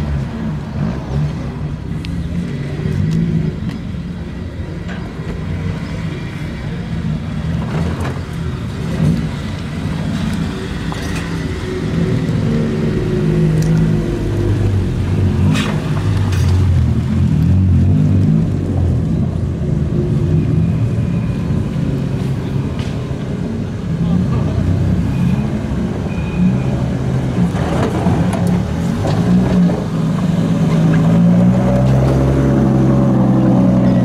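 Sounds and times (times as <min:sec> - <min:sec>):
car engines rumbling past: 0:00.0 - 0:34.0.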